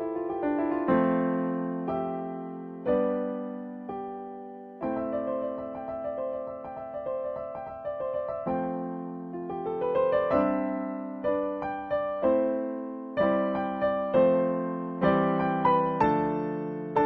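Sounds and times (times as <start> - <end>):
slow solo piano piece: 0.0 - 17.0.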